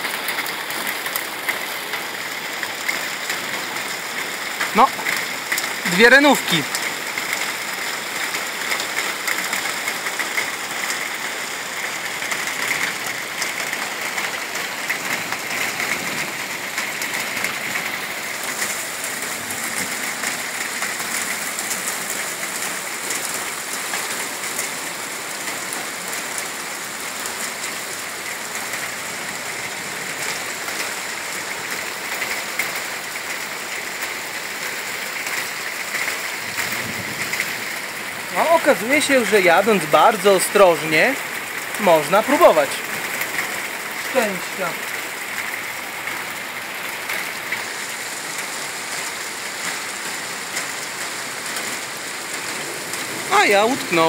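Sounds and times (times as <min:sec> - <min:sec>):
rain hitting standing water: 0:00.0 - 0:54.0.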